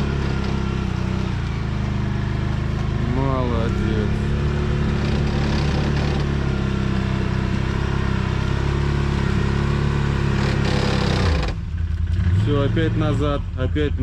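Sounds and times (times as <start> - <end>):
atv engine at high revs: 0.0 - 13.4.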